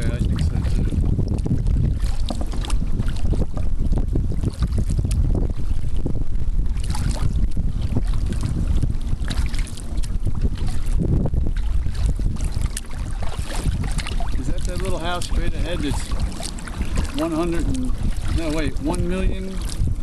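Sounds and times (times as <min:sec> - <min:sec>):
kayak paddle splashing water: 0:00.0 - 0:20.0
wind buffeting microphone: 0:00.0 - 0:20.0.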